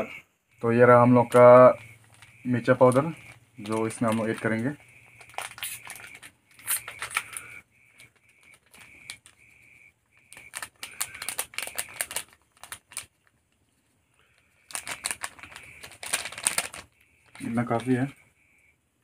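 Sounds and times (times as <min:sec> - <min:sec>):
plastic packet crinkling: 0:01.0 - 0:18.1.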